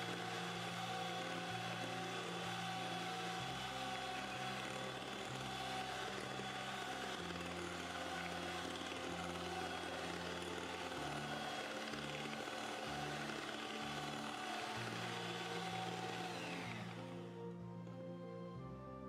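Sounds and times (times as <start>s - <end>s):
electric hand mixer running: 0.0s - 17.6s.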